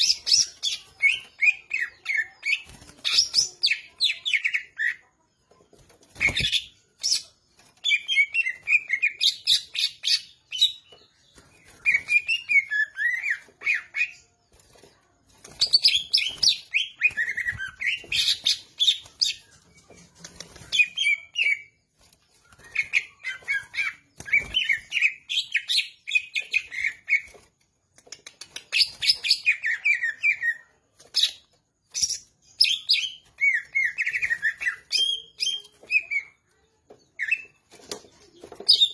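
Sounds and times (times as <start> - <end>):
bird singing: 0.0 - 27.5, 28.7 - 38.9.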